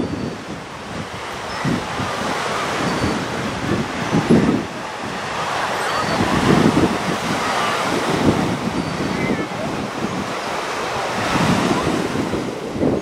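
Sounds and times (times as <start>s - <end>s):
surf washing onto sand beach: 0.0s - 13.0s
wind buffeting microphone: 0.0s - 13.0s.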